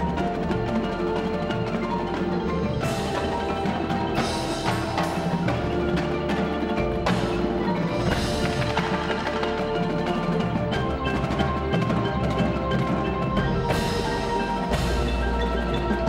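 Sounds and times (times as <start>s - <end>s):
bass drums: 0.0s - 16.0s
mallet keyboards: 0.0s - 16.0s
snare drums: 0.0s - 16.0s
tenor drums: 0.0s - 16.0s.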